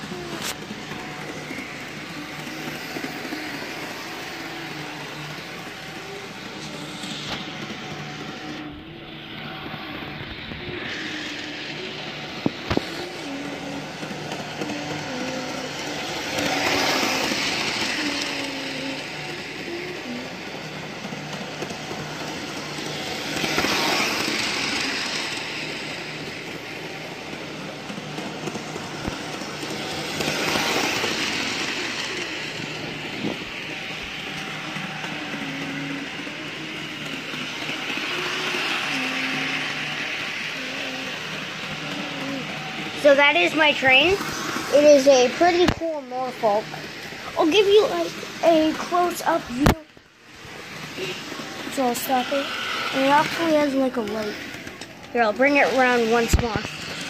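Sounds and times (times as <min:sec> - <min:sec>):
model train motor hum: 0:00.0 - 0:57.0
wheel and rail noise: 0:00.0 - 0:57.0.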